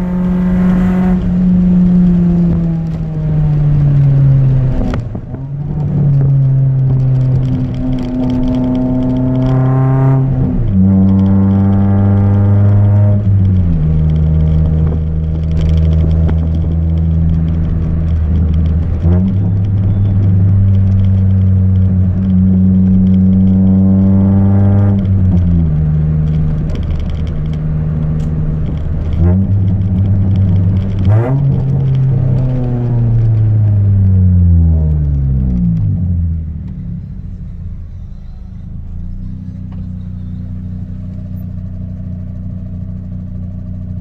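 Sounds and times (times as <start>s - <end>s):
loud car engine revving: 0.0s - 44.0s.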